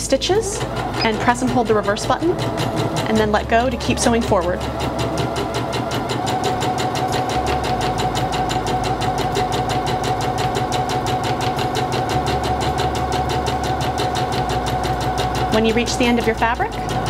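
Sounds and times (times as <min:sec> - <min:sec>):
sewing machine stitching: 0:00.0 - 0:17.0.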